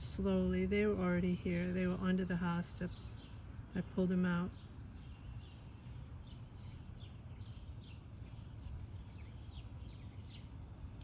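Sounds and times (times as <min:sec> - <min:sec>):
low steady rumble: 0:00.0 - 0:11.0
songbirds chirping: 0:00.0 - 0:11.0.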